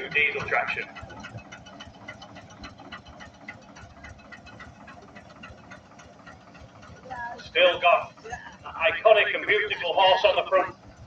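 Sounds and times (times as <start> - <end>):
diesel engine knocking beat: 0.0 - 11.0.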